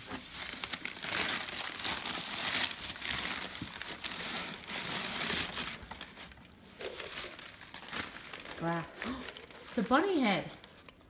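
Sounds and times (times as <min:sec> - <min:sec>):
wrapping material crinkling: 0:00.0 - 0:11.0.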